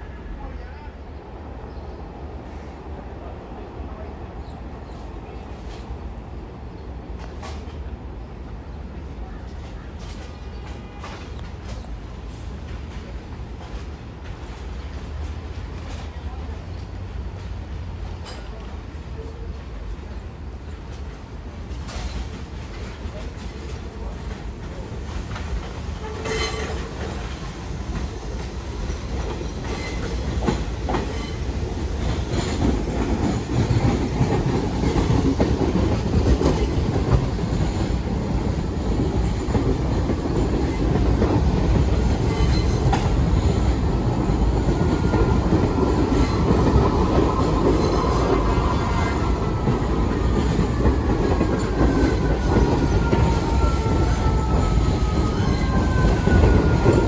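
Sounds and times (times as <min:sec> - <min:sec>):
subway train wheels clacking: 0:00.0 - 0:57.0.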